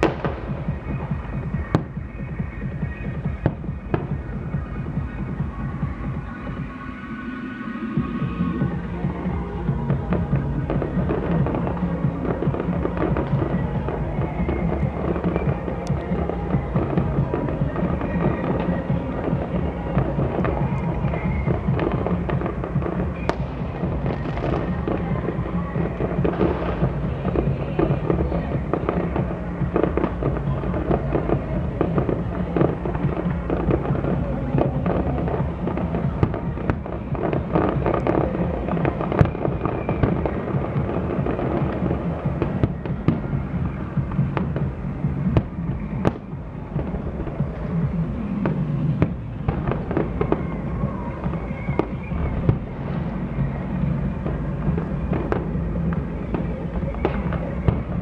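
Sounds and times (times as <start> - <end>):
fireworks bangs and crackling: 0.0 - 58.0
music playing: 0.0 - 58.0.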